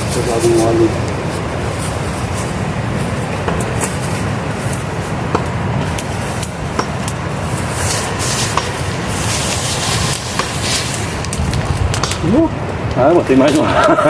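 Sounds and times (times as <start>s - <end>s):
campfire crackling and popping: 0.0s - 14.0s
river rapids rushing: 0.0s - 14.0s.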